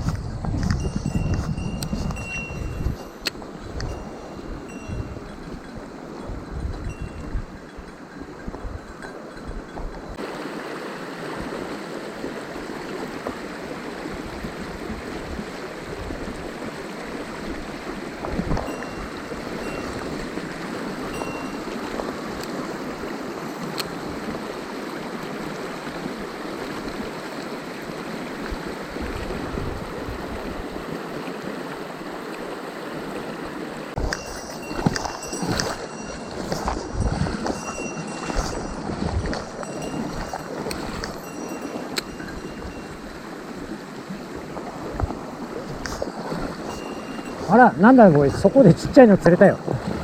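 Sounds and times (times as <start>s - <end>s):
water rushing over rocks: 9.0s - 50.0s.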